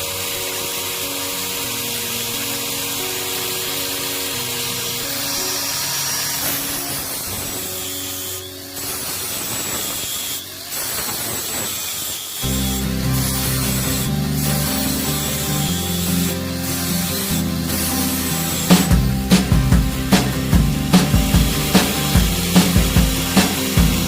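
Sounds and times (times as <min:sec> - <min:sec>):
background music: 0:00.0 - 0:09.4, 0:12.4 - 0:24.0
power tool hissing: 0:00.0 - 0:24.0.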